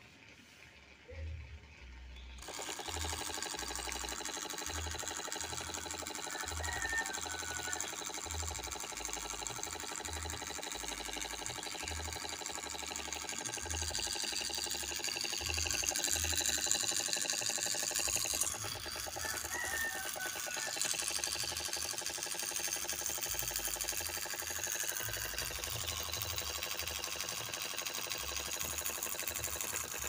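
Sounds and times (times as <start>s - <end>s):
small motor buzzing rattle: 0.0s - 30.0s.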